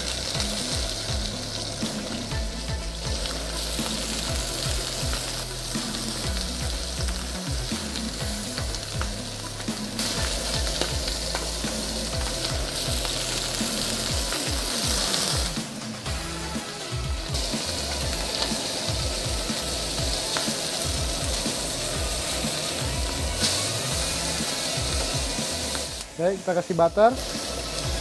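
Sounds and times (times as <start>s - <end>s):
seafood sizzling in a pan: 0.0s - 28.0s.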